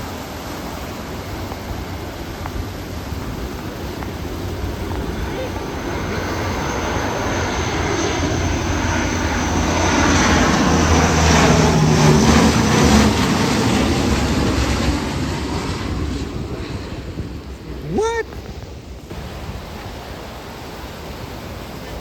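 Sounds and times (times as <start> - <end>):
airplane engines passing overhead: 0.0 - 22.0.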